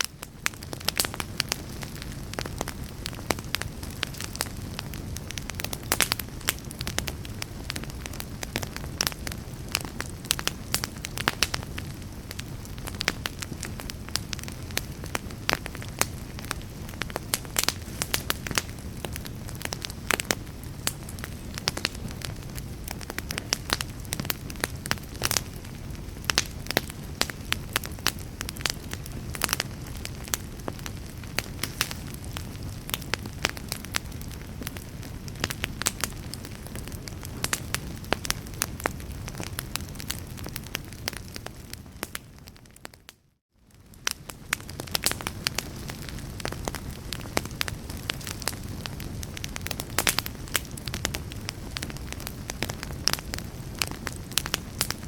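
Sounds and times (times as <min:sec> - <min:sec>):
low rush of flame: 0:00.0 - 0:42.9, 0:43.7 - 0:55.0
wood fire crackling: 0:00.0 - 0:55.0.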